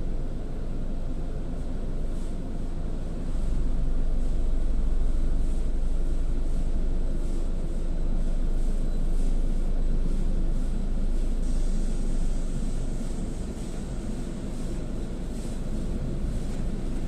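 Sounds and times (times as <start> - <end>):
car wash machinery rumble: 0.0 - 17.0.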